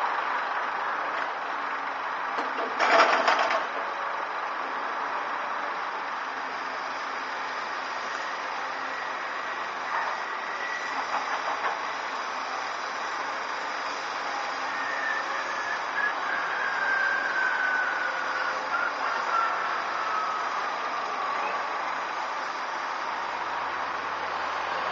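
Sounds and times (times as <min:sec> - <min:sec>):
heavy machinery running: 0:00.4 - 0:24.9.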